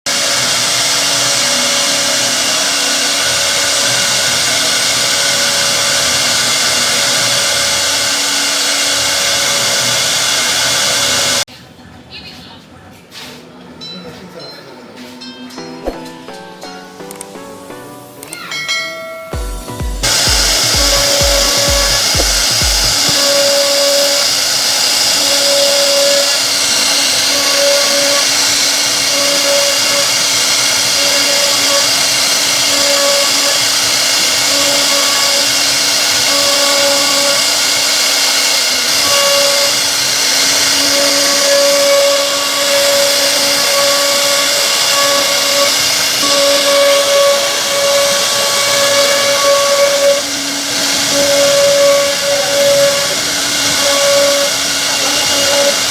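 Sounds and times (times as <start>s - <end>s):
wood router hissing and whining: 0.0s - 11.5s, 20.0s - 55.9s.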